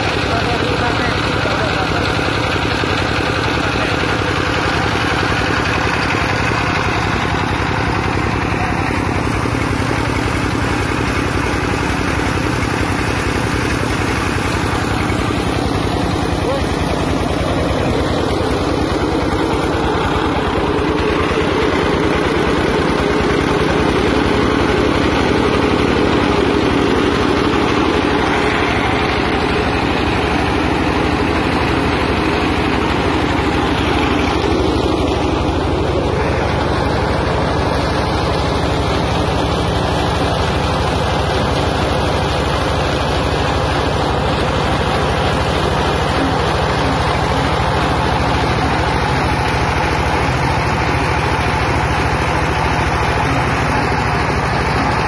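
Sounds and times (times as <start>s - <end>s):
loud engine drone: 0.0s - 55.0s.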